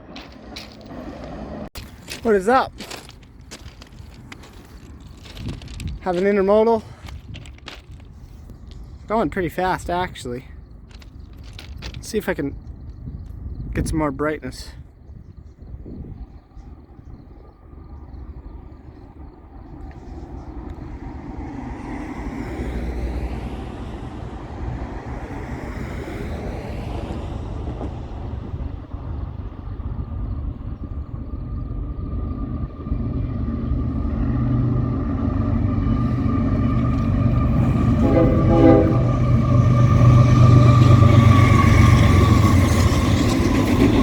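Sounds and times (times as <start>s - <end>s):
train rumble and rail noise: 0.0s - 44.0s.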